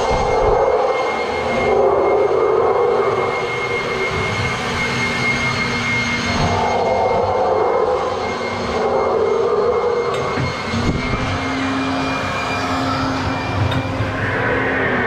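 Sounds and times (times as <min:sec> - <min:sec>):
low hum: 0:00.0 - 0:15.0
monorail car hum and rumble: 0:00.0 - 0:15.0.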